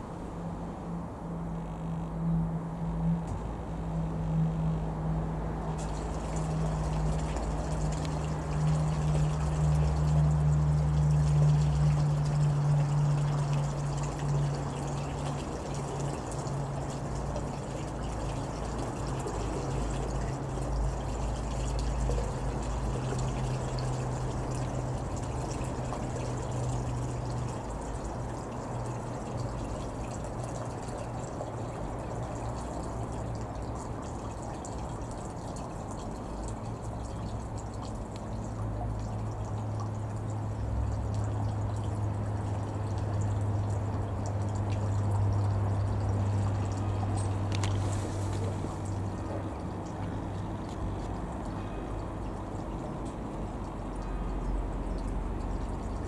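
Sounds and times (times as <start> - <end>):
distant aircraft propeller hum: 0.0 - 56.0.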